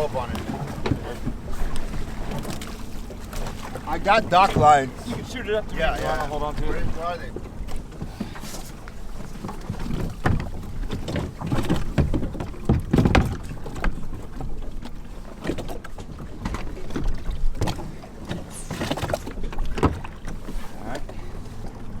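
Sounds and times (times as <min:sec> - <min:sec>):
kayak knocks and thuds: 0:00.0 - 0:22.0.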